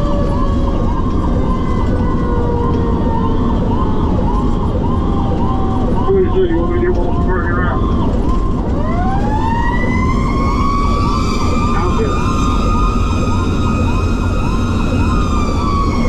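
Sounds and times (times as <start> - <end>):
electronic yelp siren: 0.0 - 16.0
truck engine and road rumble: 0.0 - 16.0.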